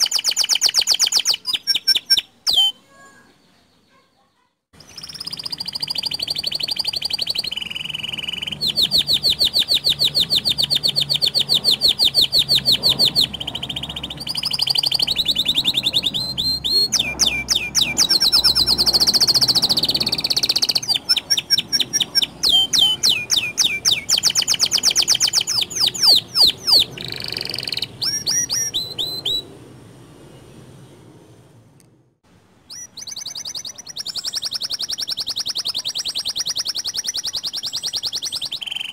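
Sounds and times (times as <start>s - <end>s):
canary singing trills: 0.0s - 29.6s, 32.6s - 38.9s.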